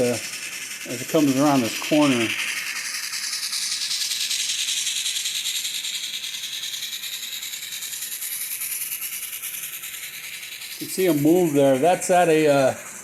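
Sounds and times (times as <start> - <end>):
model train wheels rattling on rails: 0.0 - 13.0.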